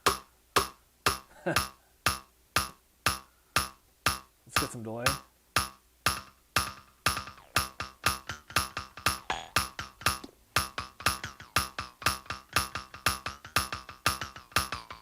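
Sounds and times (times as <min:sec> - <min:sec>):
percussive hits with delay echoes: 0:00.0 - 0:15.0.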